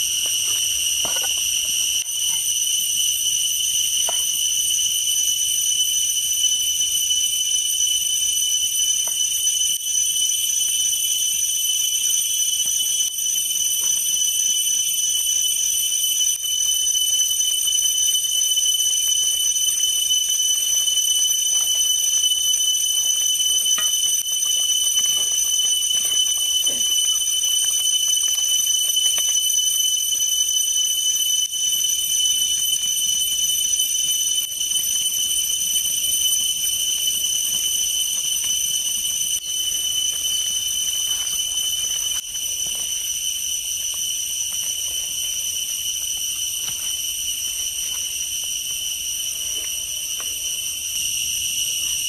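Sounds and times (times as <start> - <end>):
high-pitched insect chorus: 0.0 - 52.0.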